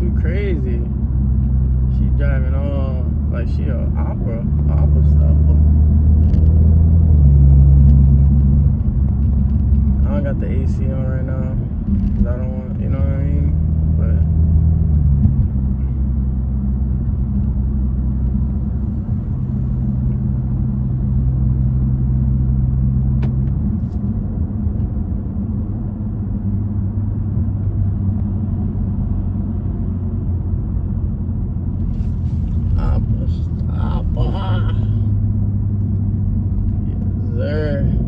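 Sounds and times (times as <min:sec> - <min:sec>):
car engine drone: 0:00.0 - 0:38.0
road noise: 0:00.0 - 0:38.0.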